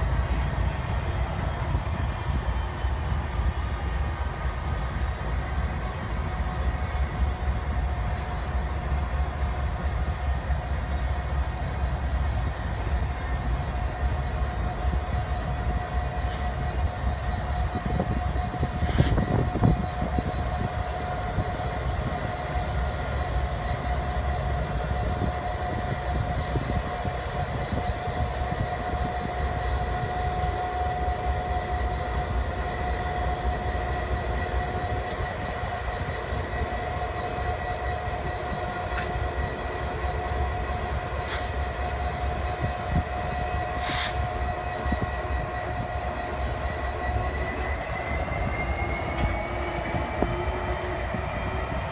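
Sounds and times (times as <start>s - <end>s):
freight train locomotives droning: 0.0s - 51.9s
sharp sounds from train: 0.0s - 51.9s.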